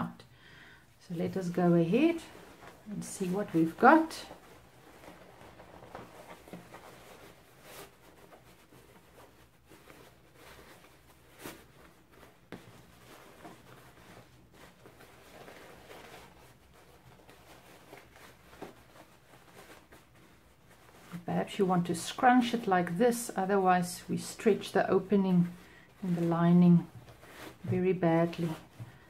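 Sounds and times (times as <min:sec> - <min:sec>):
fabric rustling: 0:00.9 - 0:29.0.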